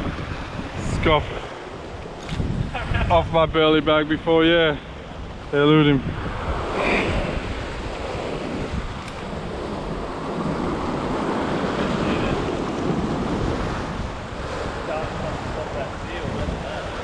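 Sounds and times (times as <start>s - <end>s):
ocean swell washing against rock: 0.0s - 17.0s
wind buffeting microphone: 0.0s - 17.0s.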